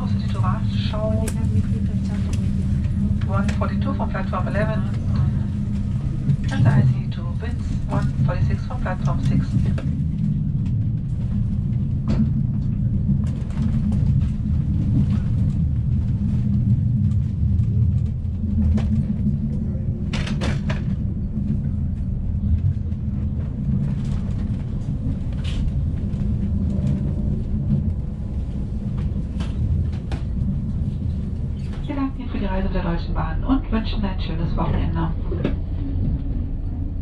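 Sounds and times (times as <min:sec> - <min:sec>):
train rattle: 0:00.0 - 0:37.0
train rumbling on track: 0:00.0 - 0:37.0.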